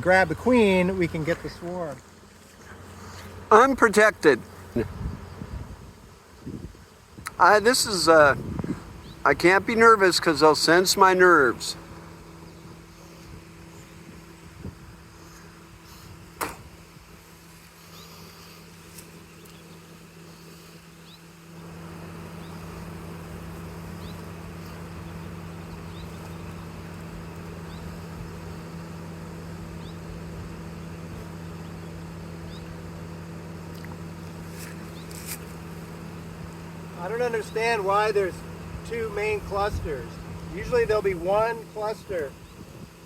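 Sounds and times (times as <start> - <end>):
honey bee swarm humming: 0.0 - 43.0.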